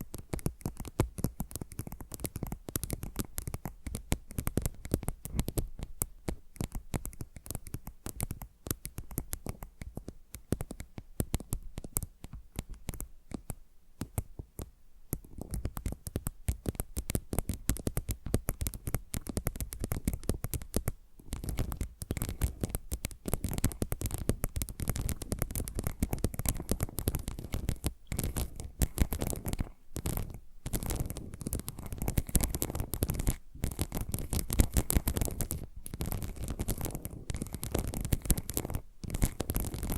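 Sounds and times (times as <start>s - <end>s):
fingernails scratching and tapping: 0.0s - 39.9s.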